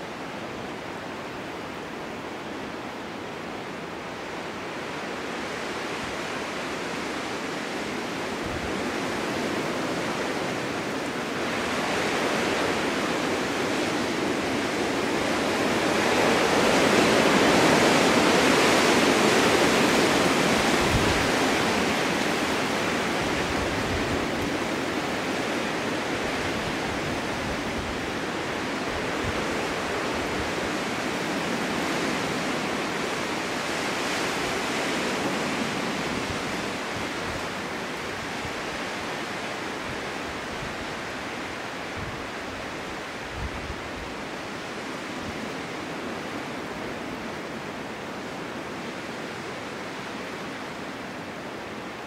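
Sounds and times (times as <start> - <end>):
snowstorm wind rushing: 3.2 - 52.0
wind gusts thumping microphone: 4.4 - 51.3.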